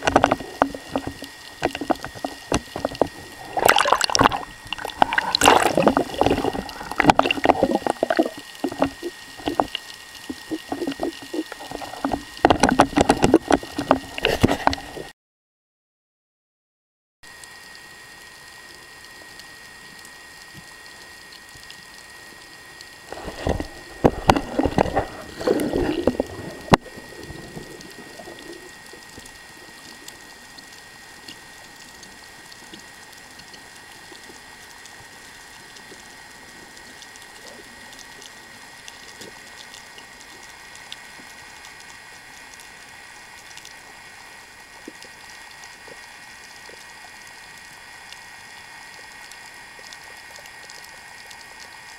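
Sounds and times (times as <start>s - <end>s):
underwater hiss with high whine: 0.0s - 15.1s, 17.3s - 51.9s.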